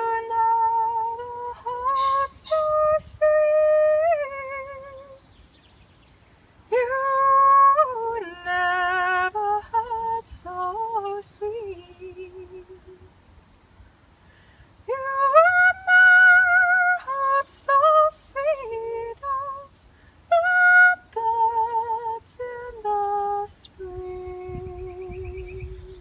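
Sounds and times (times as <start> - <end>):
woman singing with vibrato: 0.0 - 5.3, 6.7 - 13.1, 14.8 - 26.0.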